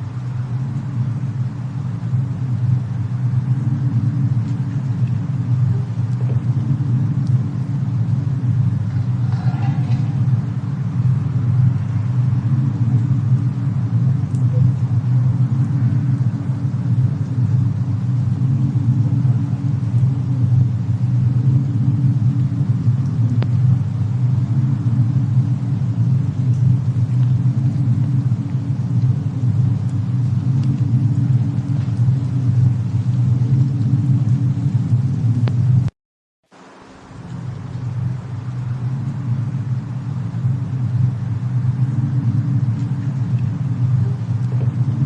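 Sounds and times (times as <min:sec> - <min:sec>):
fire crackles and pops: 0:00.0 - 0:35.9, 0:36.5 - 0:45.0
low rumble with hiss: 0:00.0 - 0:45.0.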